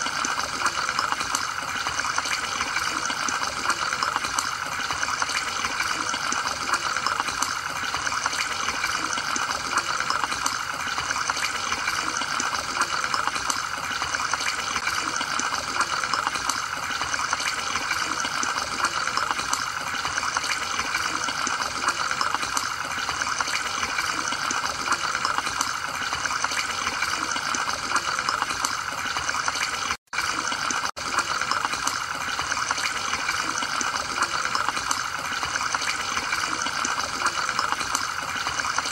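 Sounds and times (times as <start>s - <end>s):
aquarium water bubbling: 0.0s - 38.9s.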